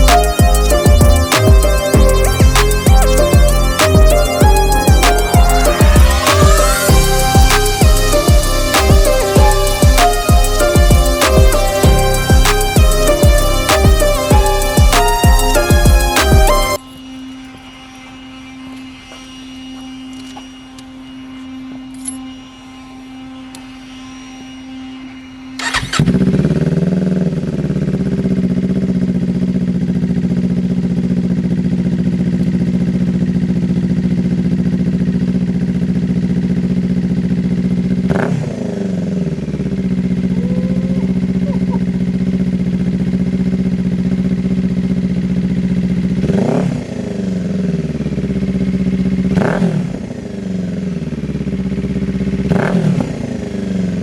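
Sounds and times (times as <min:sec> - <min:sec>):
motorcycle engine idling and revving: 0:00.0 - 0:19.2, 0:25.6 - 0:54.0.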